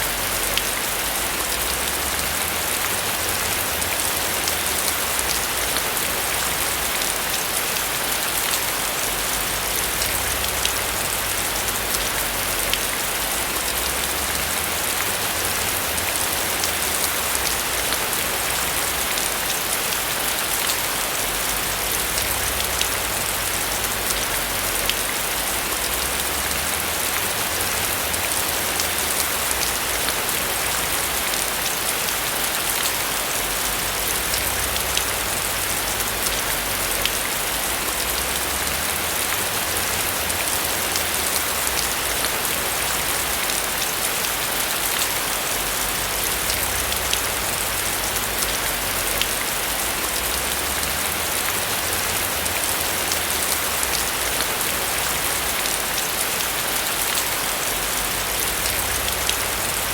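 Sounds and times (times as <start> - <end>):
rain falling on a roof: 0.0 - 59.9.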